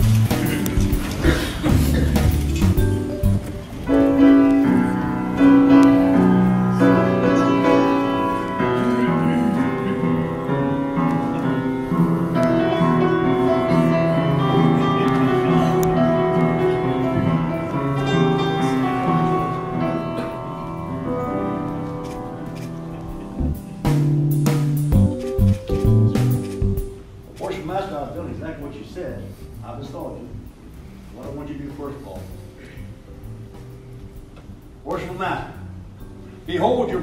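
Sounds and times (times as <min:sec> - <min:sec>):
slow instrumental music: 0:00.0 - 0:27.4, 0:30.3 - 0:37.0.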